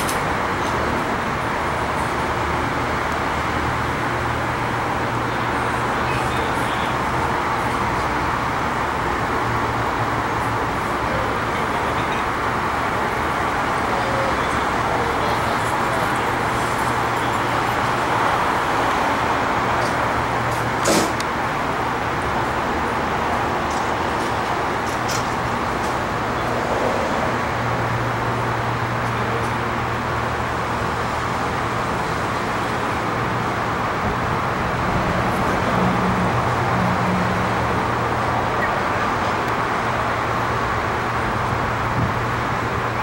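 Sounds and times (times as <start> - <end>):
streetcar rumble and hiss: 0.0 - 43.0.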